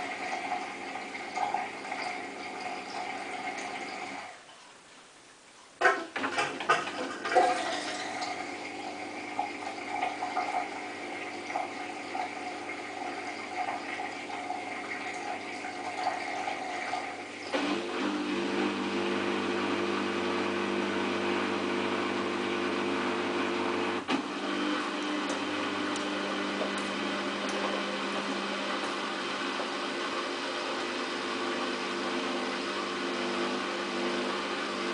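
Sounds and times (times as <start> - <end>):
water flowing in washing machine: 0.0 - 4.8, 5.8 - 34.9.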